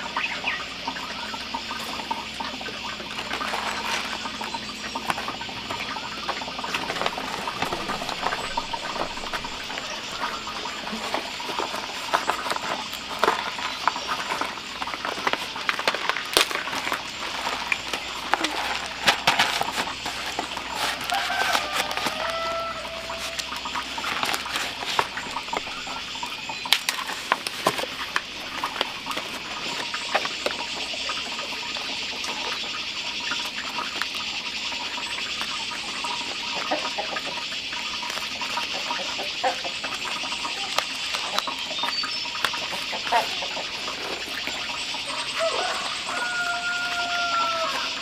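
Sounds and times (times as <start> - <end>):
leaves clicking and crackling: 0.0 - 48.0.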